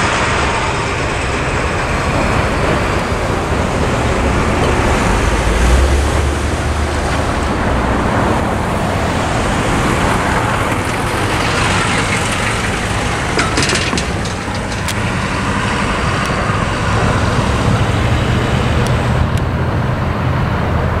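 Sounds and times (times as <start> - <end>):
vehicle clunking over rails: 0.0 - 19.2
vehicles driving past: 0.0 - 21.0.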